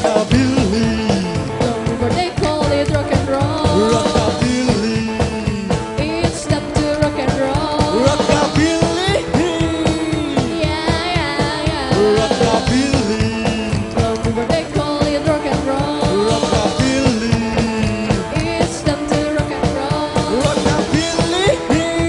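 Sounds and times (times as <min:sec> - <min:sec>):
man singing: 0:00.0 - 0:22.0
rock and roll band playing: 0:00.0 - 0:22.0.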